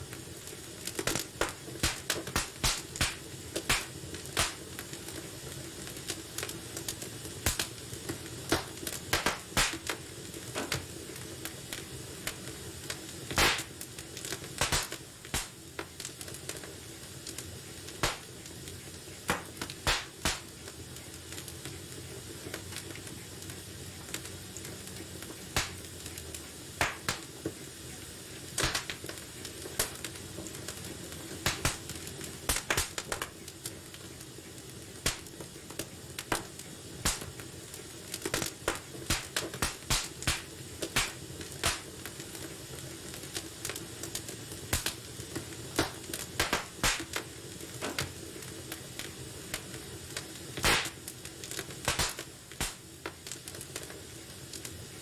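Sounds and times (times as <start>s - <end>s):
burning logs popping and crackling: 0.0s - 55.0s
low hiss of flames: 0.0s - 55.0s.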